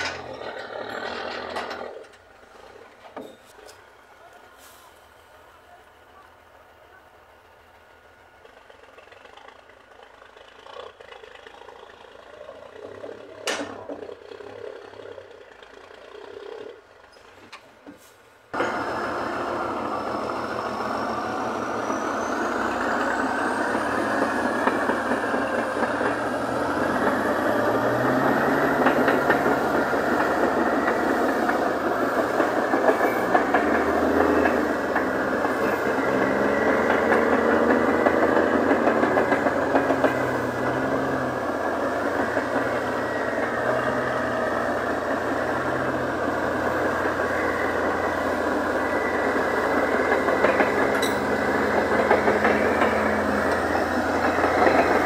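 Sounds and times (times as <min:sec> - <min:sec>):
heavy diesel engines working hard: 0:00.0 - 0:55.0.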